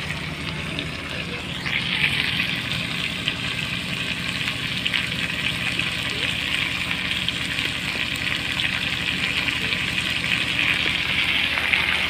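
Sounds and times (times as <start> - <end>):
fish frying sizzle: 0.0 - 12.0.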